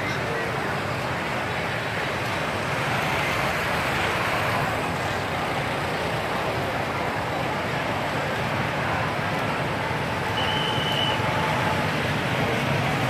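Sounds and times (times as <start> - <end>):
motorbikes passing on road: 0.0 - 13.0.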